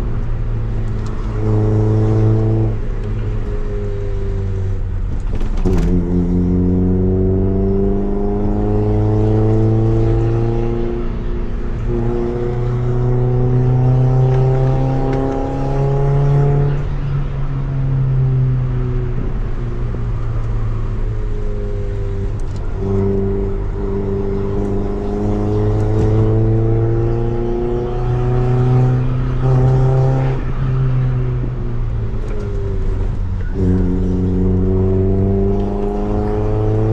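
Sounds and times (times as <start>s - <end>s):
car engine revving through gears: 0.0s - 16.9s, 20.4s - 36.9s.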